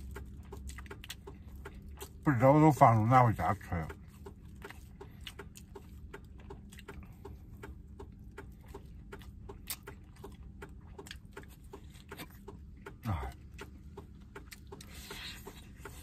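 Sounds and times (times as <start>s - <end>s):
low steady hum: 0.0s - 16.0s
man chewing and gnawing: 0.0s - 16.0s.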